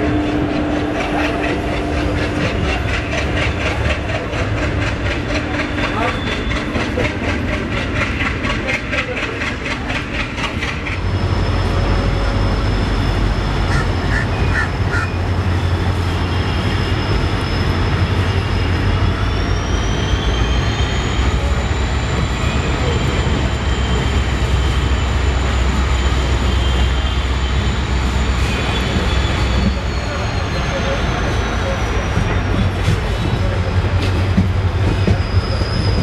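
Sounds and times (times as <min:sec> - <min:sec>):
train wheels rumbling: 0:00.0 - 0:36.0.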